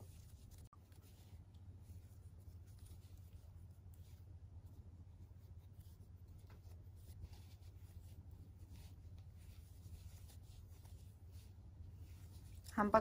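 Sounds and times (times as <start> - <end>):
crochet hook scratching yarn: 0.0 - 13.0
low steady hum: 0.0 - 13.0.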